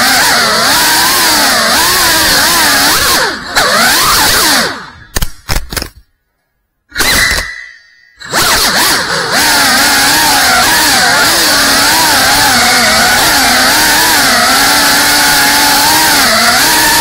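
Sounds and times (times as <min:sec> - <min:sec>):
quadcopter motors whining: 0:00.0 - 0:05.0, 0:08.2 - 0:17.0.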